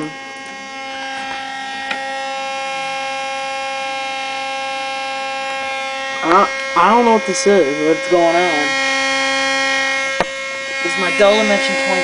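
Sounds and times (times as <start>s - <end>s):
loud optical drive buzz: 0.0s - 12.0s.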